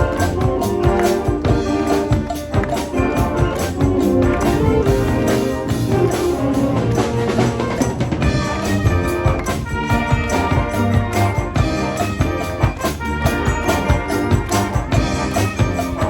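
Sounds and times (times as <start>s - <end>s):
brass sustained chords: 0.0s - 16.0s
drum kit and percussion beat: 0.0s - 16.0s.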